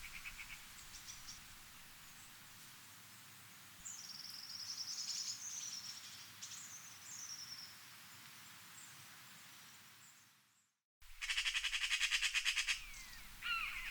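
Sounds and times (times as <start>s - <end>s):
wind through trees: 0.0s - 13.9s.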